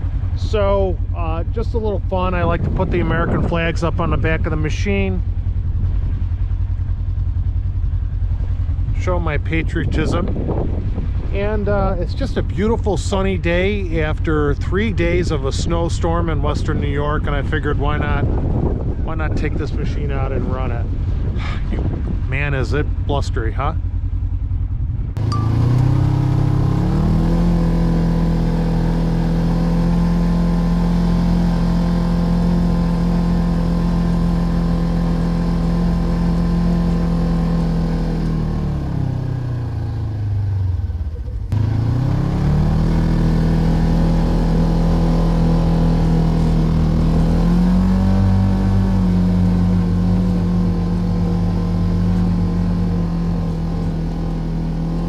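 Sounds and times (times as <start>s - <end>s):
vehicle engine running under load: 0.0s - 55.0s.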